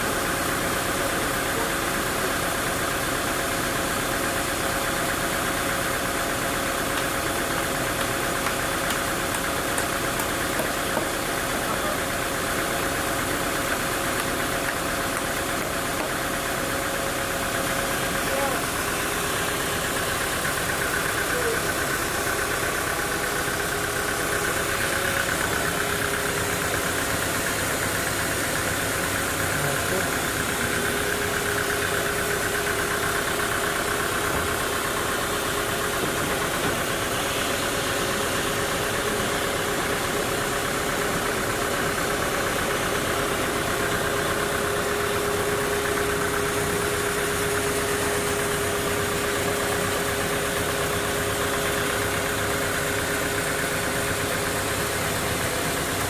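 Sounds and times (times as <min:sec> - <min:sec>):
engine hum: 0:00.0 - 0:56.0.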